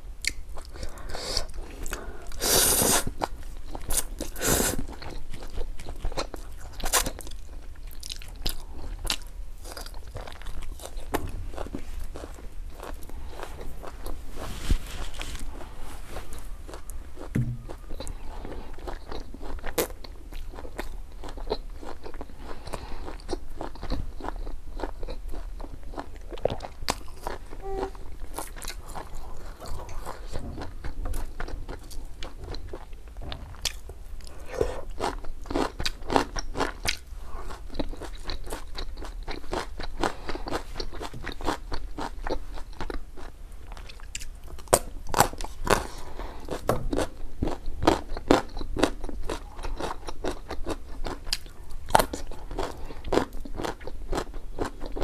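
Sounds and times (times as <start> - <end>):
person chewing crunchy vegetables: 0.2 - 55.0.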